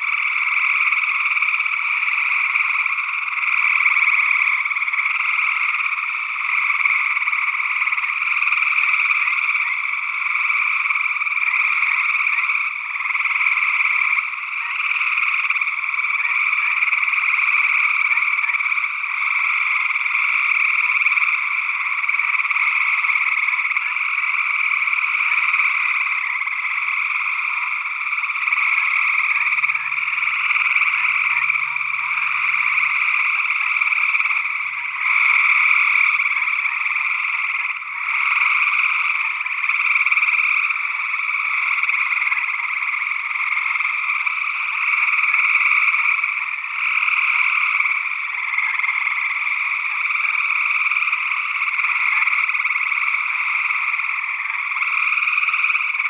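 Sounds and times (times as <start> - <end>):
treefrogs trilling: 0.0 - 56.0.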